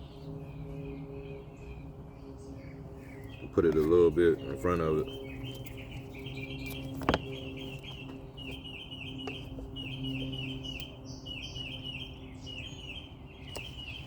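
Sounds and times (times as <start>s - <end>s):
bird chirping: 0.0s - 14.0s
low hum: 0.0s - 14.0s.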